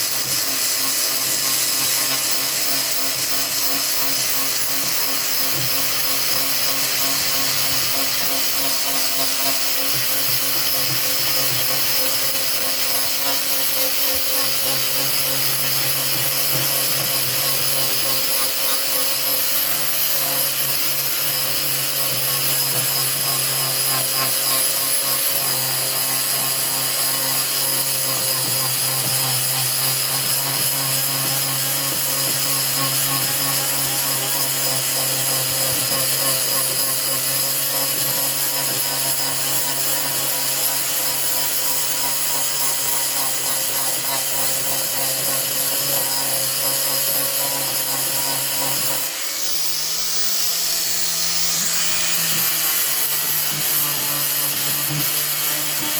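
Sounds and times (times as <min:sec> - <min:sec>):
angle grinder sanding wood: 0:00.0 - 0:55.9.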